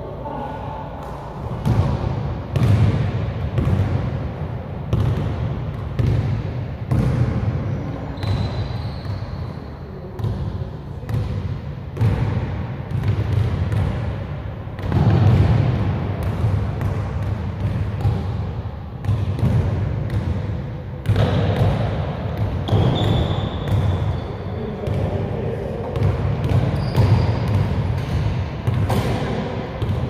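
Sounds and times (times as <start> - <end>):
basketball bouncing on gym floor: 1.0 - 9.5, 10.2 - 24.2, 24.8 - 25.2, 25.8 - 30.0.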